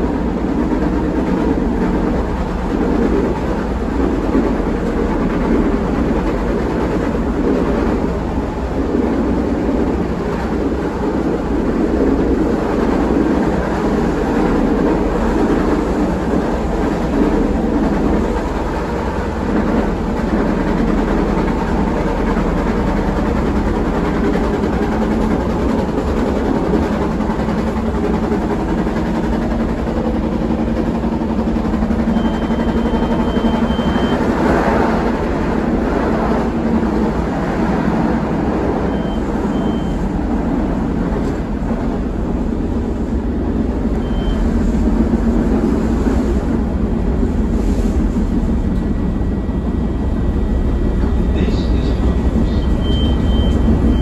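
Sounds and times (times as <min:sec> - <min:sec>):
running gear humming drone: 0:00.0 - 0:54.0
wheels rumbling on rail: 0:00.0 - 0:54.0.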